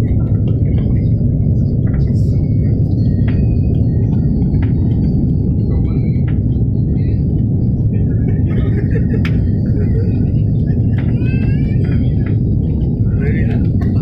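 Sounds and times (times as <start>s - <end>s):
airliner cabin rumble: 0.0s - 14.0s
faint voices: 0.0s - 14.0s.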